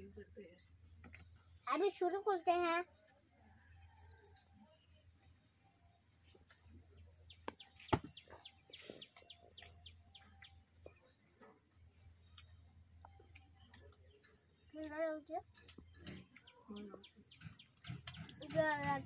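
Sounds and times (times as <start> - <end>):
bird chirping: 3.0 - 19.0.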